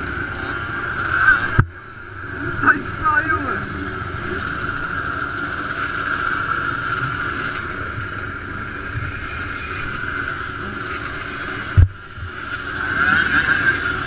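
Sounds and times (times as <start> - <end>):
motocross engines running: 0.0 - 14.0.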